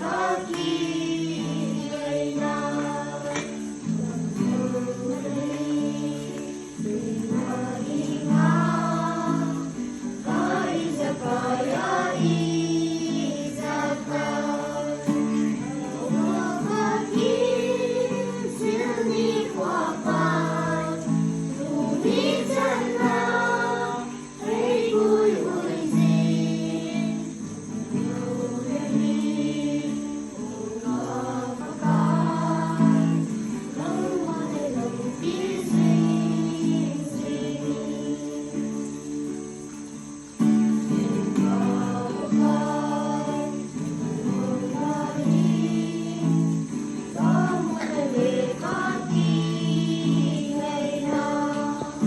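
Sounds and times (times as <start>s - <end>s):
group of people singing: 0.0s - 52.0s.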